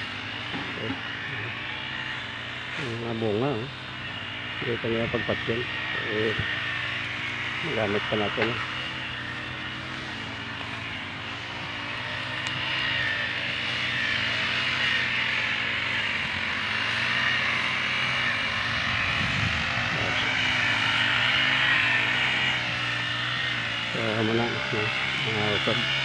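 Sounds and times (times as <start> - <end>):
engine drone: 0.0 - 26.0.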